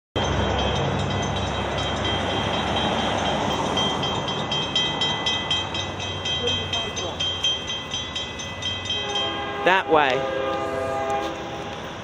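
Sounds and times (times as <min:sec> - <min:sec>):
high-pitched ringing: 0:00.2 - 0:10.2
locomotive engine hum: 0:00.2 - 0:12.0
train wheels rumbling: 0:00.2 - 0:12.0.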